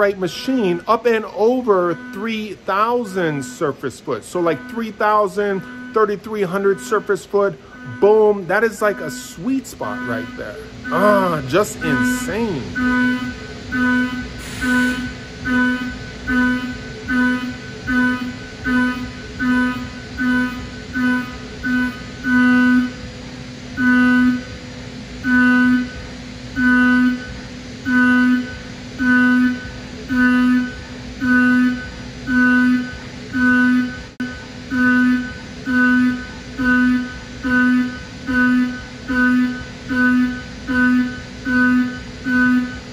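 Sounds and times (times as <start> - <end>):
pulsing machining whine: 0.0 - 42.9.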